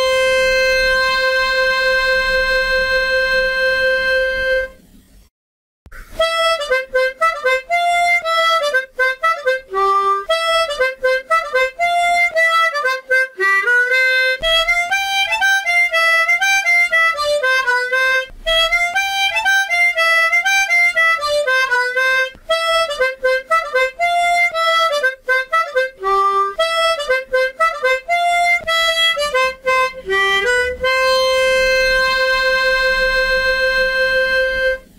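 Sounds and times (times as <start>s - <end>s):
harmonica folk melody: 0.0s - 4.8s, 6.0s - 34.9s.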